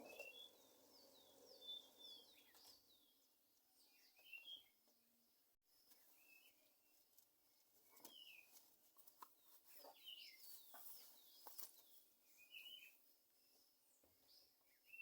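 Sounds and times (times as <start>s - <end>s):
faint bird chirps: 0.0s - 4.9s, 7.8s - 15.0s.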